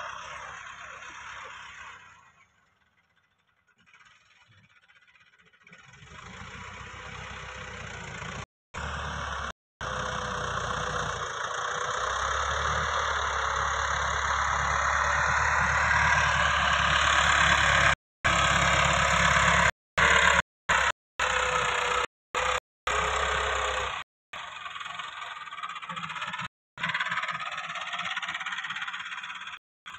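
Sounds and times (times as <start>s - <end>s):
tractor diesel engine: 0.0s - 2.4s, 5.8s - 29.9s.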